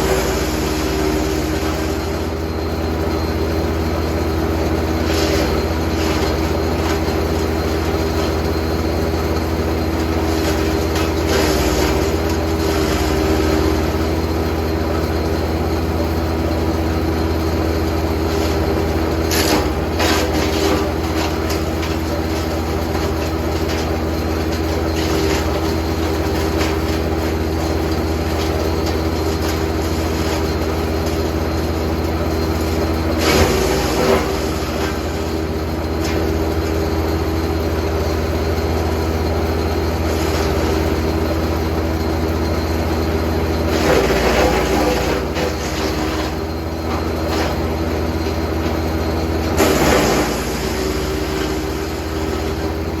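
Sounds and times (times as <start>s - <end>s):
wood chipper running: 0.0s - 53.0s.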